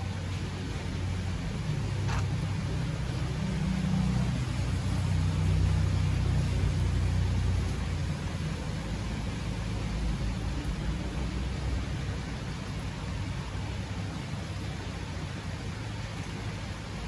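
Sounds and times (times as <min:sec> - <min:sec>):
steady rain falling: 0:00.0 - 0:17.0
vehicle passing on wet street: 0:00.0 - 0:17.0.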